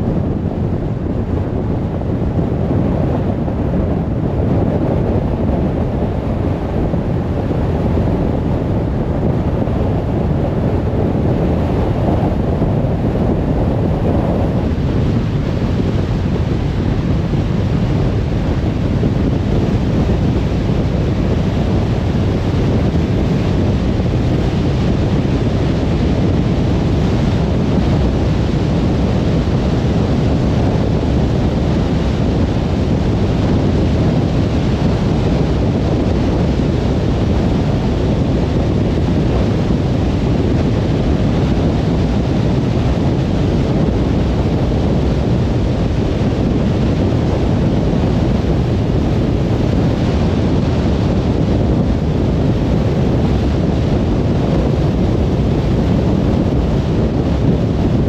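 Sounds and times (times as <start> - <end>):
car cruising on motorway: 0.0 - 58.0
tyre and wind noise: 0.0 - 58.0.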